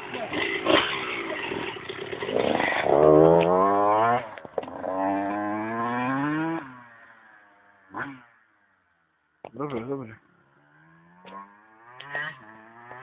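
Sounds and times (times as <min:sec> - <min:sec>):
motocross bike engine accelerating: 0:00.0 - 0:08.5, 0:10.4 - 0:13.0.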